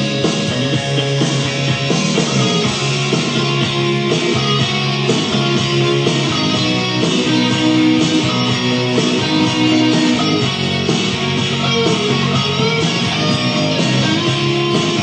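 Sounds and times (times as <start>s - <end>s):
guitar rock music: 0.0s - 15.0s.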